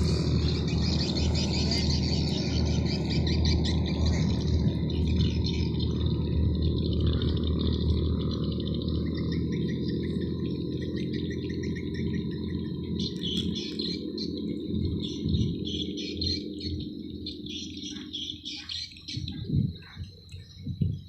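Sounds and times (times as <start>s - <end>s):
birds chirping: 0.0s - 21.0s
boat engines droning: 0.0s - 21.0s.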